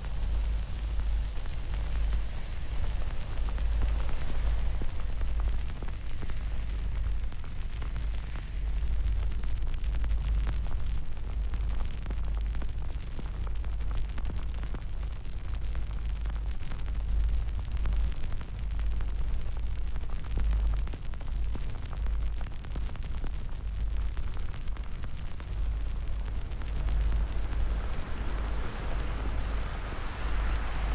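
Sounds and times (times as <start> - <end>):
fire rumbling and crackling: 0.0 - 30.9.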